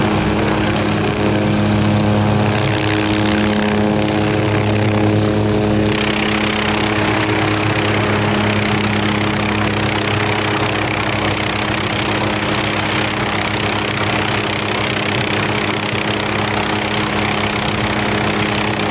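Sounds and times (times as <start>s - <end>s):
helicopter engine and rotors: 0.0s - 18.9s.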